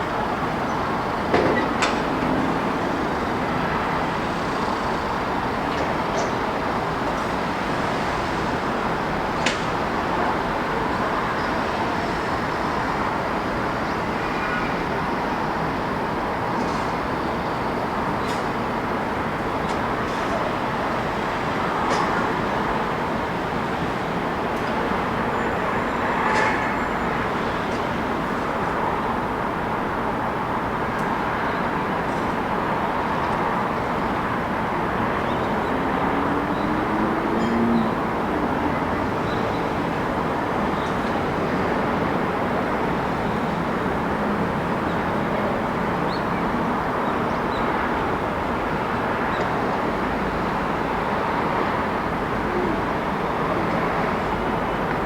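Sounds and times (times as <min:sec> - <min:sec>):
traffic noise: 0:00.0 - 0:55.0.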